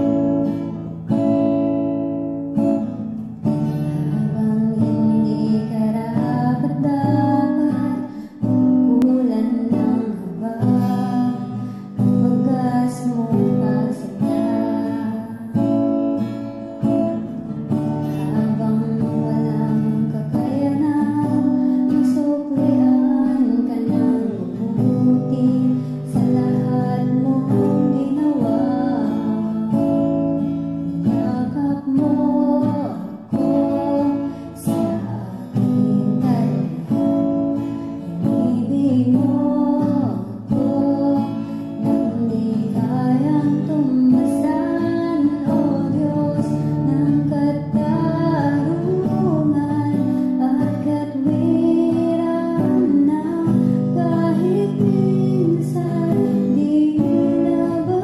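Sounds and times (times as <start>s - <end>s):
acoustic guitar strumming: 0.0s - 58.0s
woman singing: 0.0s - 58.0s.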